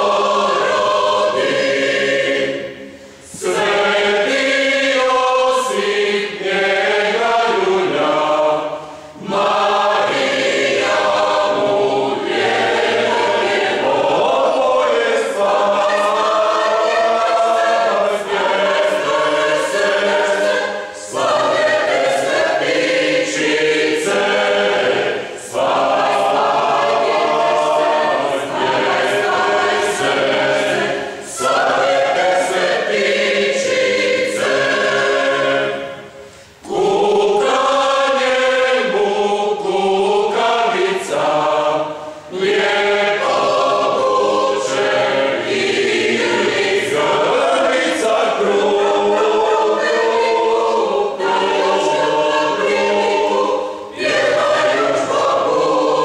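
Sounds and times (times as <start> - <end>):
mixed choir singing unaccompanied: 0.0 - 56.0.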